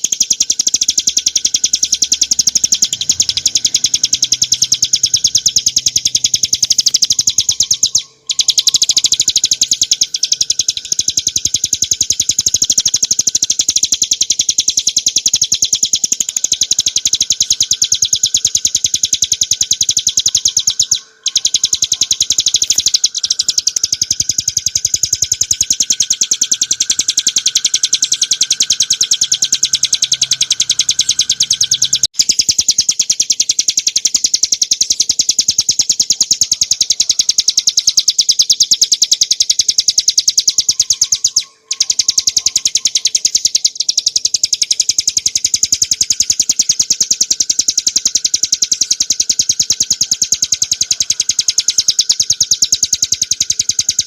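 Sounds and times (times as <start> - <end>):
bird singing high sharp notes: 0.0 - 54.0.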